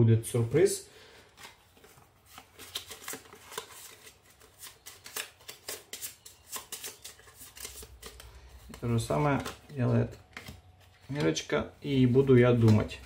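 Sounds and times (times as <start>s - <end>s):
cards sliding: 1.3s - 13.0s.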